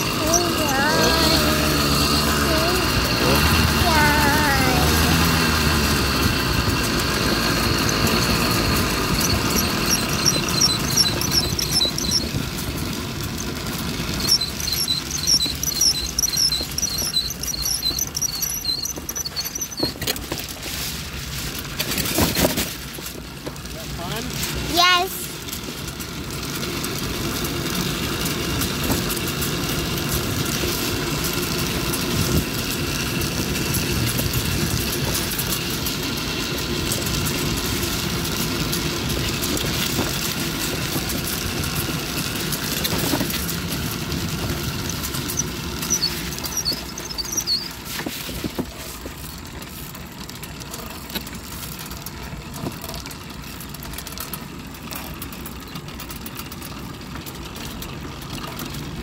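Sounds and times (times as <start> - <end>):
bike trailer rolling over pavement: 0.0 - 59.0.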